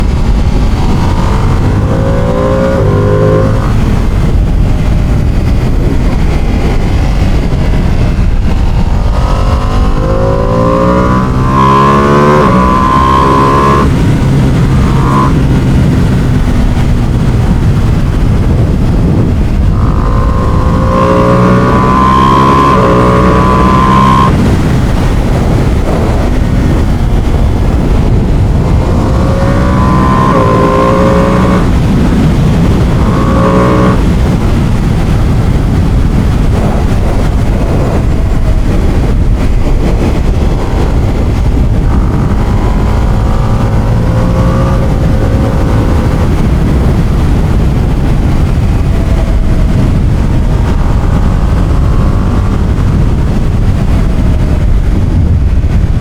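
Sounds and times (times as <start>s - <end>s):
motorcycle engine revving: 0.0s - 56.0s
wind and road noise: 0.0s - 56.0s.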